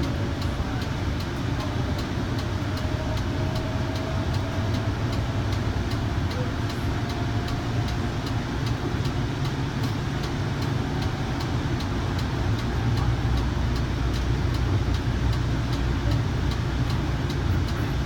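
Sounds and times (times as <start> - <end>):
faint regular ticking: 0.0 - 18.0
train wheels rumbling on rails: 0.0 - 18.0.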